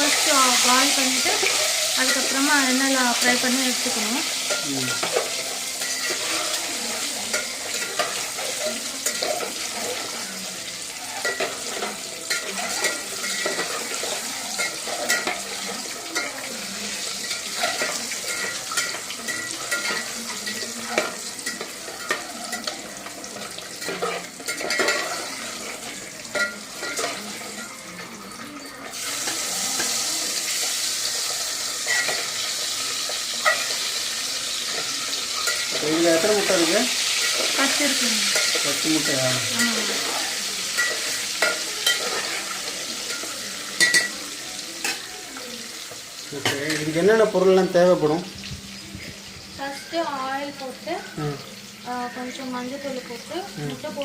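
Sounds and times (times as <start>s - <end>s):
eggs sizzling in hot oil: 0.0s - 54.0s.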